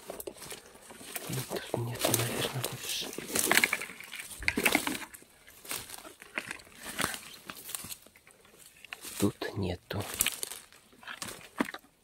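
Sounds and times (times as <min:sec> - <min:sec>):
footsteps on dry leaves: 0:00.0 - 0:11.6
undergrowth rustling: 0:00.0 - 0:12.0.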